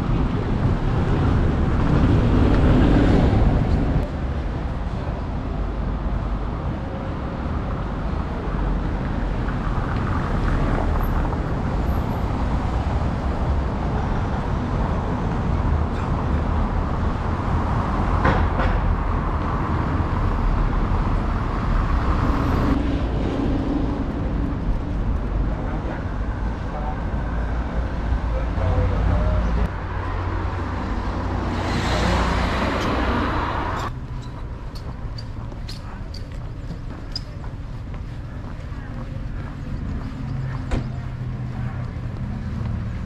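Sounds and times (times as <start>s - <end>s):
vehicle rumbling: 0.0s - 43.0s.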